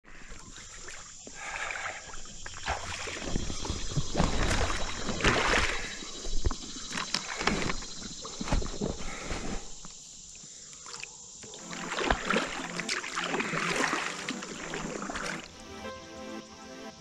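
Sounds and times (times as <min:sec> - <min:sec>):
water sloshing against hull: 0:00.0 - 0:15.6
kayak paddle splashing: 0:00.0 - 0:15.7.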